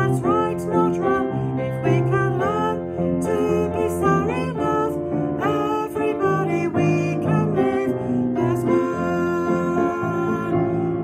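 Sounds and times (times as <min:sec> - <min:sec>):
upright piano playing: 0:00.0 - 0:11.0
woman singing: 0:00.0 - 0:11.0.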